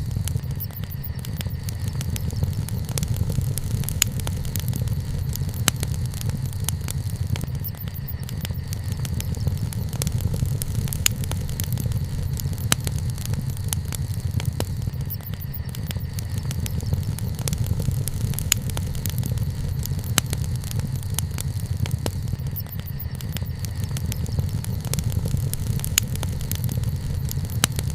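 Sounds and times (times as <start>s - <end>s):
bonfire crackling and popping: 0.0s - 27.9s.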